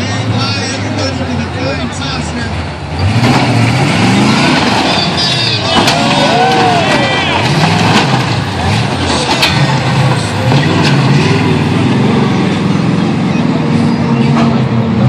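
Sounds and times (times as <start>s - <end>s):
crowd noise: 0.0s - 15.0s
vehicle engine running: 0.0s - 15.0s.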